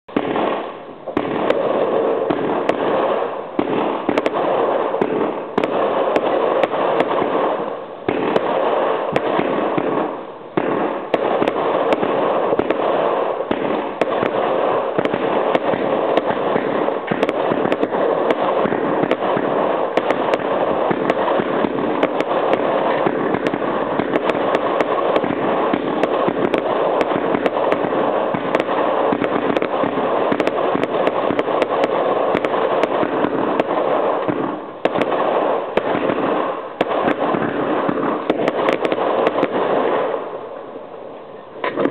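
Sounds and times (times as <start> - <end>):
fireworks banging and crackling: 0.0 - 41.9.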